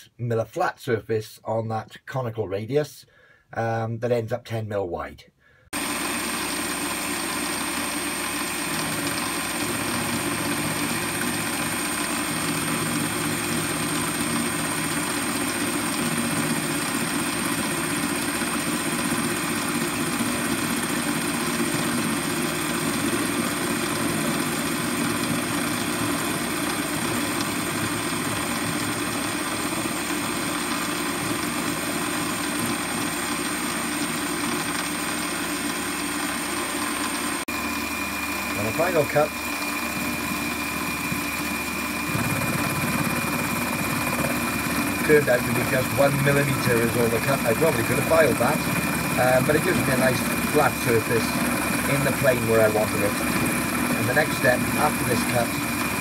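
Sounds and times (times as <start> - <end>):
lathe milling with whine: 5.8 - 56.0.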